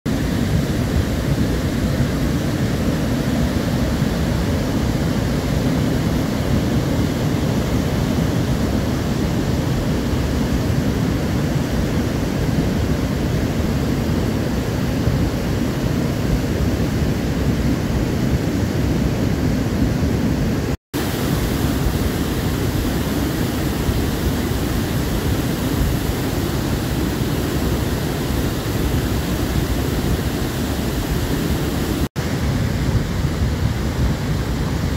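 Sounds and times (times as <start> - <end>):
river torrent rushing: 0.1 - 34.9.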